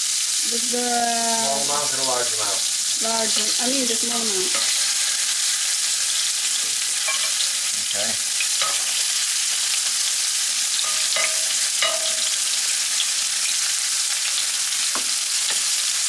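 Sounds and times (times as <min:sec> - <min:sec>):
pork sizzling in oil: 0:00.0 - 0:16.0.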